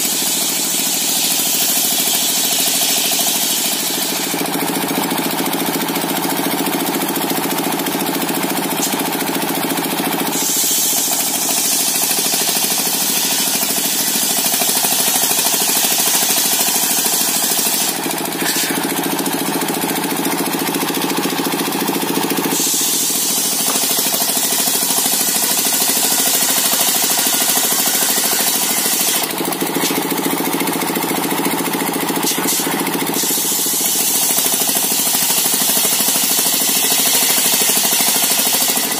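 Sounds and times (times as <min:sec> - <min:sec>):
saw blade hissing through wood: 0:00.0 - 0:05.1, 0:08.0 - 0:30.2, 0:32.1 - 0:38.9
engine-driven circular saw running: 0:00.0 - 0:38.9.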